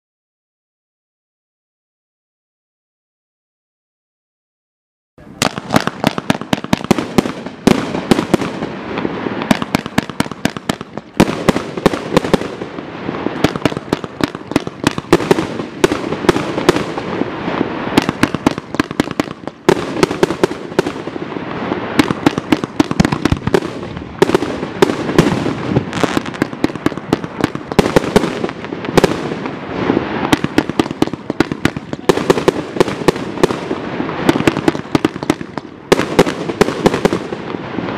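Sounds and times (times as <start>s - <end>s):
fireworks cake firing: 5.2s - 37.9s.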